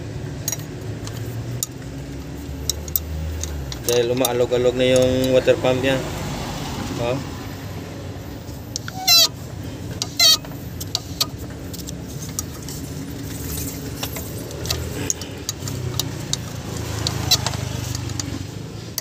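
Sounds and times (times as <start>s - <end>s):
loose metallic clicks and knocks: 0.4s - 5.4s, 8.7s - 19.0s.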